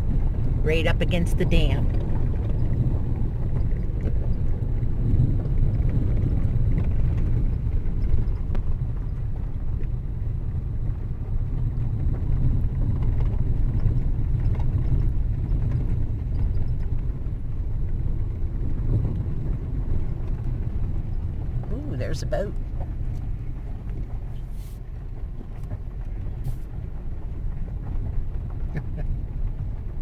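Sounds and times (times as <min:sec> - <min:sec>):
vehicle rumbling on dirt road: 0:00.0 - 0:30.0.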